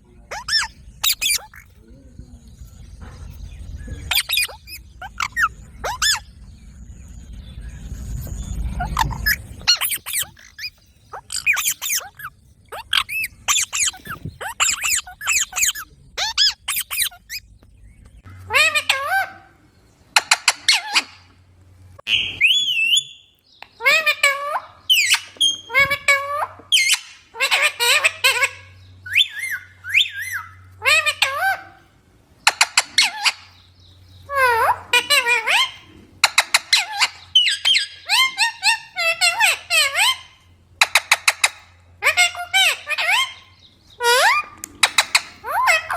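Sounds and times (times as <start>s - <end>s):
parakeets squawking and whistling: 0.0s - 21.4s, 22.0s - 45.9s
parrots screeching: 0.2s - 1.8s, 4.0s - 6.3s, 8.6s - 17.5s, 18.4s - 19.6s, 20.2s - 21.3s, 22.0s - 33.6s, 34.2s - 45.9s.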